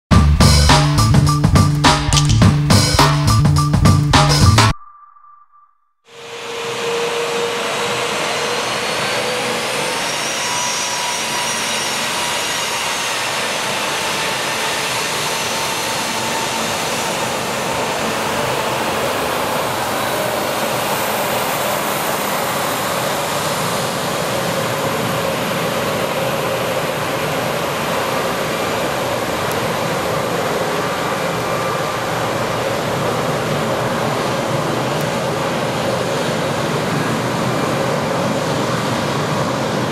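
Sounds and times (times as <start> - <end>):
jet engines rushing: 6.3 - 39.9.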